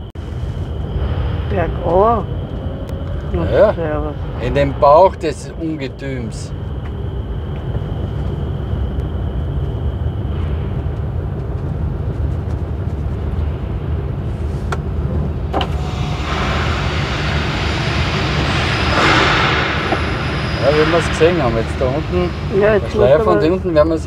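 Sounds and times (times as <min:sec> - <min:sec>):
engine low rumble: 0:00.0 - 0:24.0
ship's hold hum: 0:00.0 - 0:24.0.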